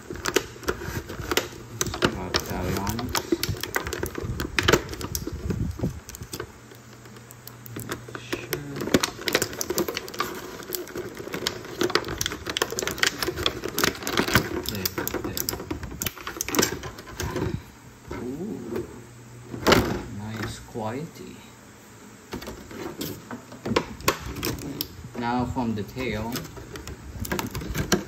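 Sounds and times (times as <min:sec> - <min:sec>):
plastic packaging crinkling: 0:00.0 - 0:17.7, 0:22.4 - 0:28.0.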